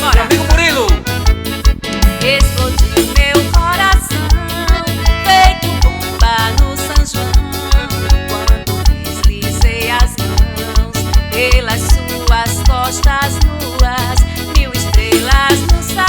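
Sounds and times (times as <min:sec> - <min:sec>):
dance music with bass beat: 0:00.0 - 0:16.0
keyboard melody with gliding notes: 0:00.0 - 0:16.0.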